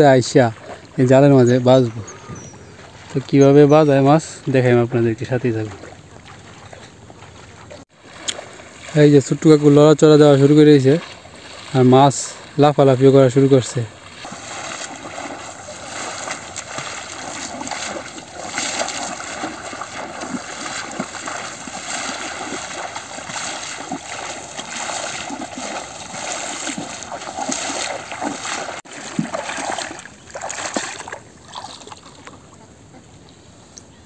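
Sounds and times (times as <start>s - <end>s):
splashing through shallow water: 0.0s - 32.7s.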